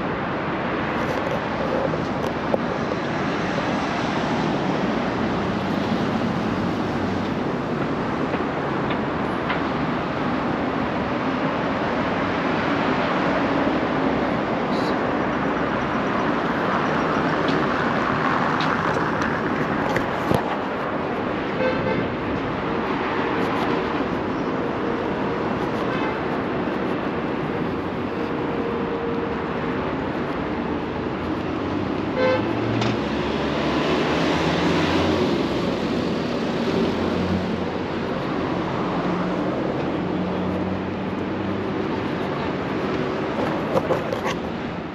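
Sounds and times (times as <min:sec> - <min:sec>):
road traffic noise: 0:00.0 - 0:44.9.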